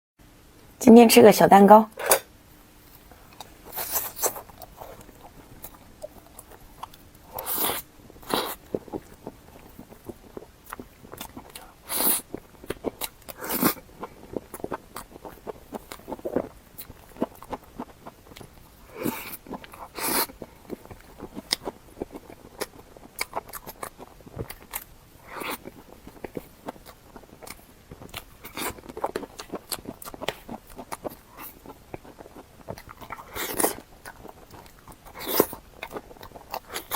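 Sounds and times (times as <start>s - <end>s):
cake being bitten and chewed: 2.8s - 36.9s.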